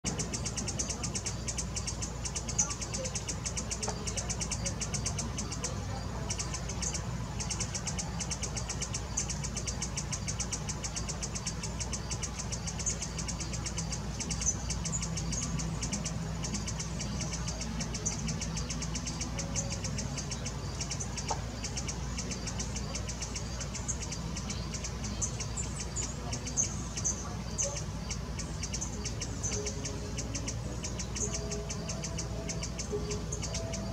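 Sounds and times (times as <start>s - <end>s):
hummingbird chip notes: 0.0s - 33.9s.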